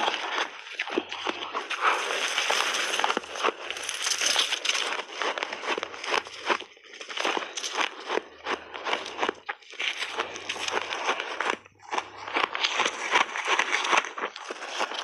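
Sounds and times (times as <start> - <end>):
shaved ice crunching while chewed: 0.0 - 15.0.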